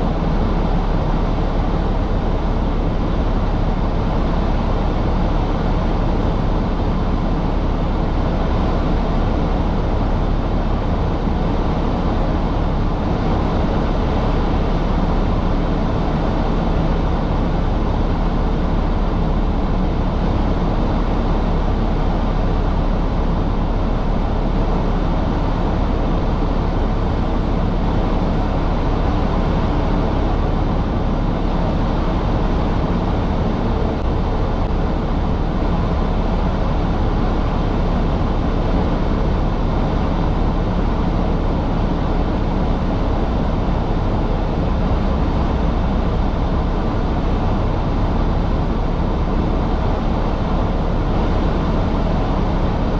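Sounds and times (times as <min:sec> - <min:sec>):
truck diesel engine rumbling: 0:00.0 - 0:52.9.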